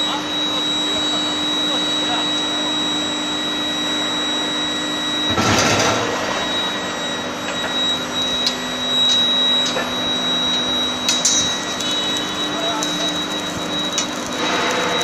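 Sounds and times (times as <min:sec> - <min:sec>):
induction heating line whine: 0:00.0 - 0:15.0.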